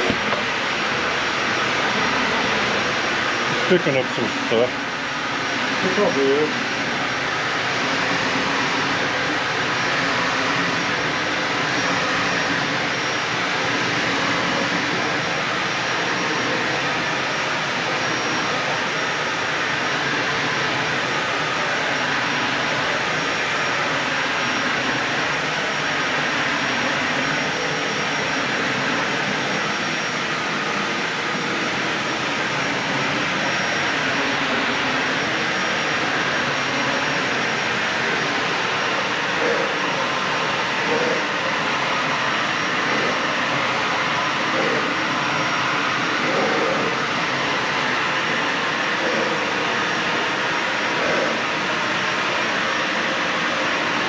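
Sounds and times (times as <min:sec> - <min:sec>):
vacuum cleaner running over carpet: 0:00.0 - 0:54.0.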